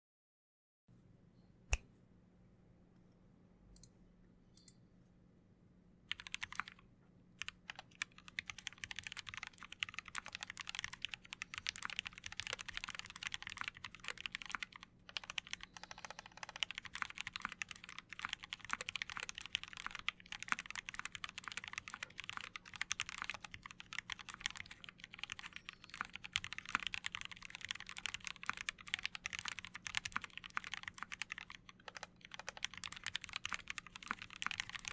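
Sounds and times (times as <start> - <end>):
mechanical keyboard typing: 6.1 - 6.8, 7.4 - 34.9.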